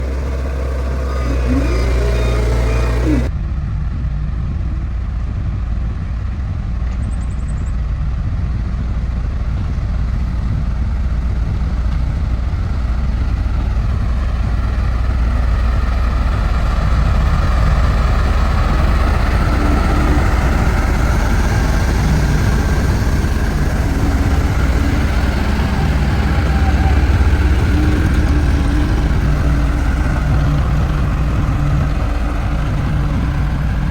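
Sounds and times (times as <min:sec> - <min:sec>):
heavy machinery engine running: 0:00.0 - 0:33.9.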